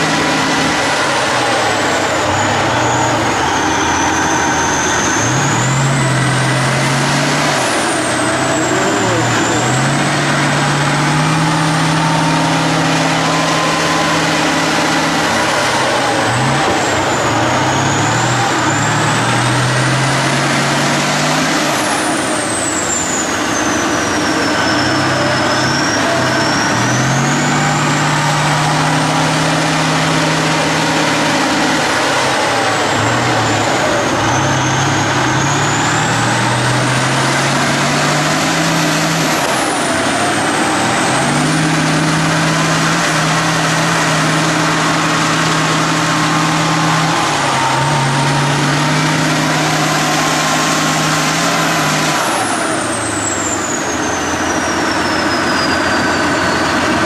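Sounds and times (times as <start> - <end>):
tank diesel engine under load: 0.0 - 57.0.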